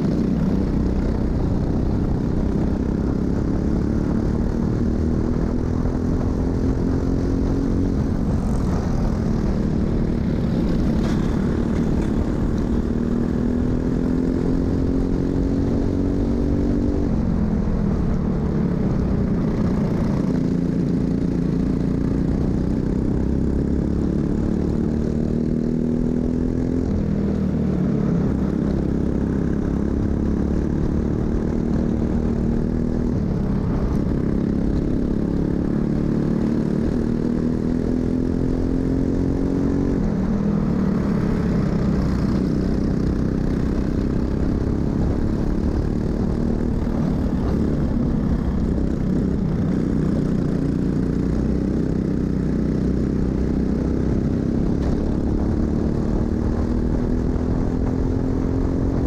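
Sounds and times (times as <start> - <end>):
kart engine at full throttle: 0.0 - 59.0.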